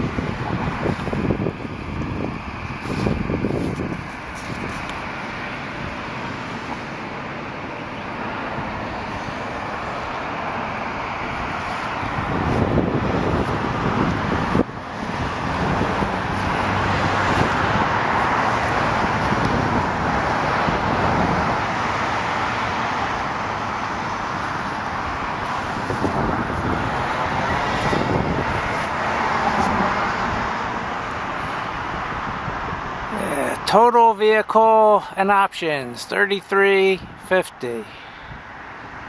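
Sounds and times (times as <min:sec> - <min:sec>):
road traffic hiss: 0:00.0 - 0:39.0.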